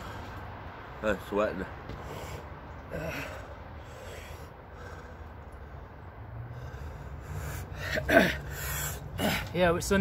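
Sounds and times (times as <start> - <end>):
man breathing hard: 0.0 - 0.8, 1.9 - 9.6.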